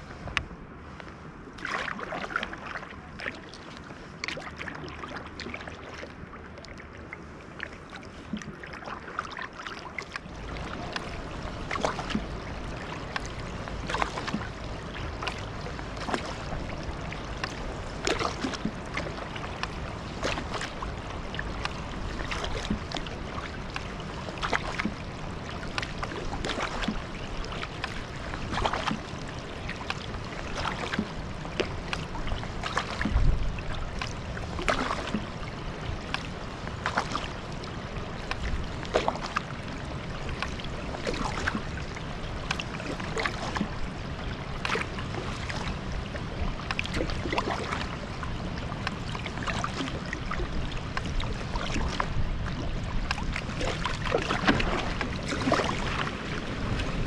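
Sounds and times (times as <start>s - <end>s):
paddle splashing water: 0.0s - 57.0s
steady low rumble: 10.0s - 57.0s.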